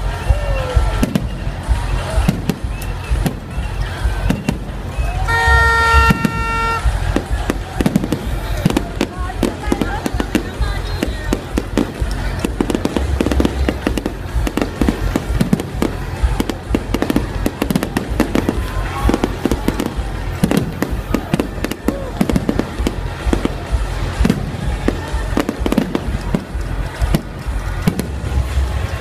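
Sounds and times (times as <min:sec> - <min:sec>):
fireworks bursting and crackling: 0:00.0 - 0:29.0.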